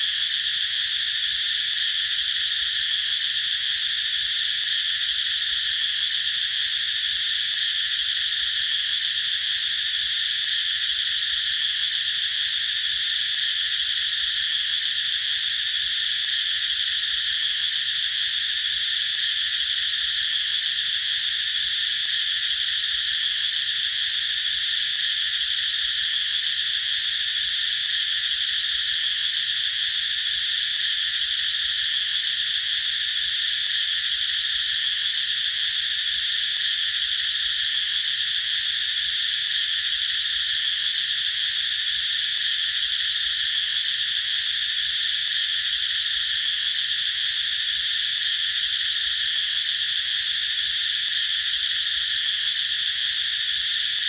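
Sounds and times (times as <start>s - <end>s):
cicadas singing: 0.0s - 54.0s.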